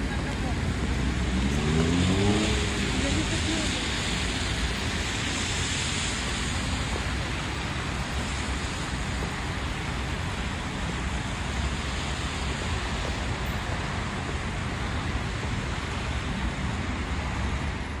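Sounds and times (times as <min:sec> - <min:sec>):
cars on wet road: 0:00.0 - 0:18.0.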